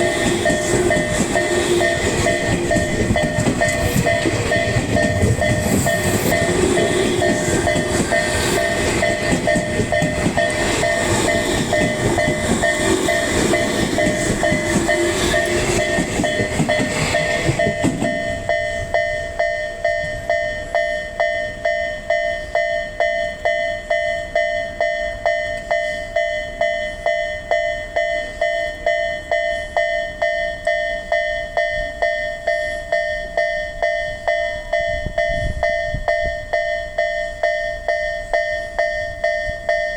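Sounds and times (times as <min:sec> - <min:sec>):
level crossing alarm ringing: 0:00.0 - 0:39.9
train rumble and wheel noise: 0:00.0 - 0:39.9.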